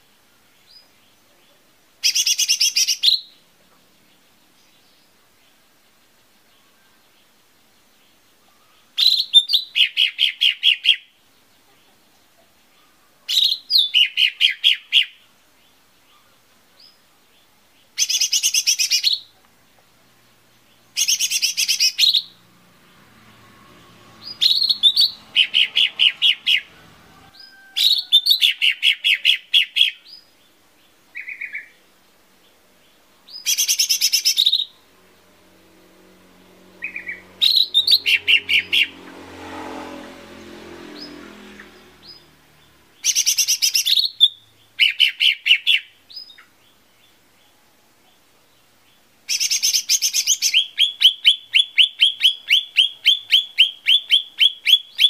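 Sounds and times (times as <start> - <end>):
small bird chirping: 0.0 - 39.5, 40.2 - 55.0.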